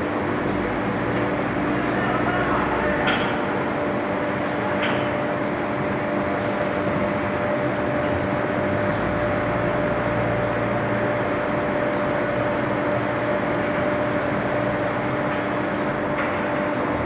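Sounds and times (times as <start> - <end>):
constant industrial hum: 0.0 - 17.0.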